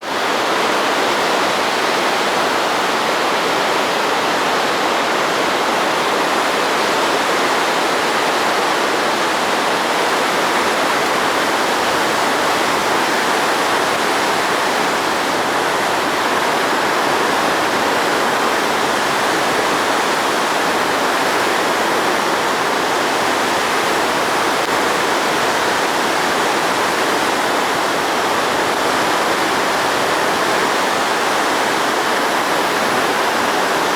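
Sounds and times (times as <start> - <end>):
river water rushing through dam: 0.0 - 33.9.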